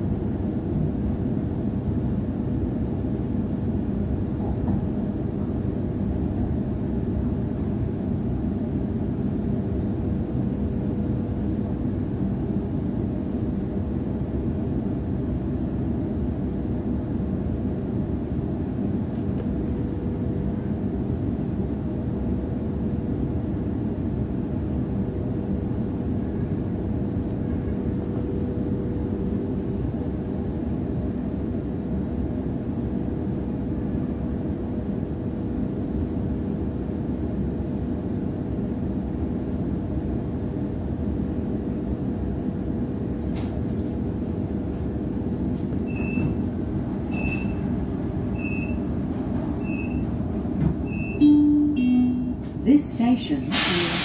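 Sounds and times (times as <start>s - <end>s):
constant hum: 0.0s - 53.9s
train wheels rumbling on track: 0.0s - 54.0s.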